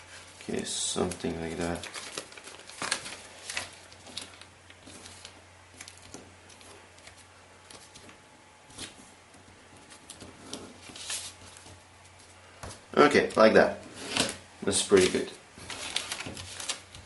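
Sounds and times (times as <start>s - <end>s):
paper rustling and creasing: 0.0s - 17.0s.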